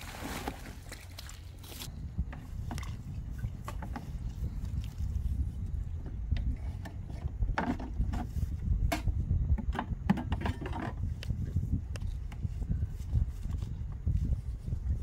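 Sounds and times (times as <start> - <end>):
hoses and hoe being handled: 0.0 - 15.0
low rumble: 1.6 - 15.0.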